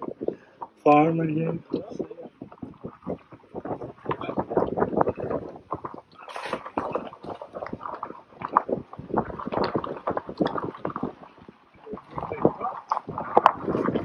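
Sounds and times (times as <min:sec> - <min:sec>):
vehicle rattling over bumps: 0:00.0 - 0:14.0.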